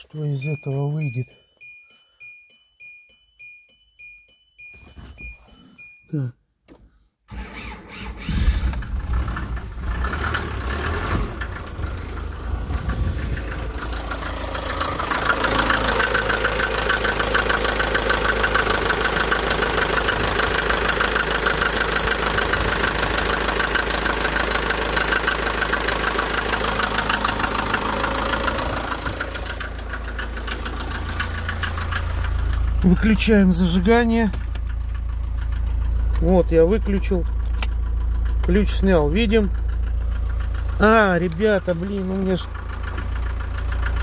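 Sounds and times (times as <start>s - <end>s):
diesel engine starting and running: 0.0s - 44.0s.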